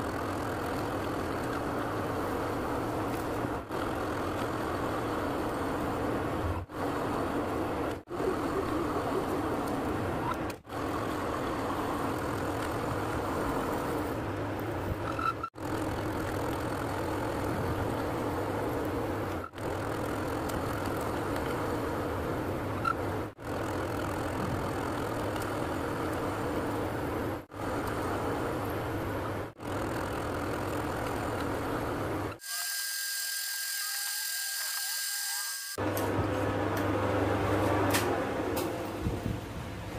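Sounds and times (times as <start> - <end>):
metal lathe motor and gear hum: 0.0 - 37.5.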